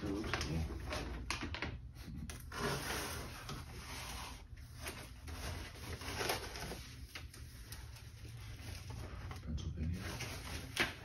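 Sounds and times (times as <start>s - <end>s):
paper and plastic bag rustling: 0.0s - 11.0s.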